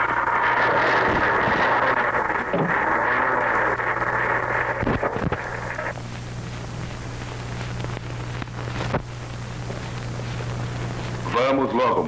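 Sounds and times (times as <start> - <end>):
film soundtrack hum and hiss: 0.0 - 12.0.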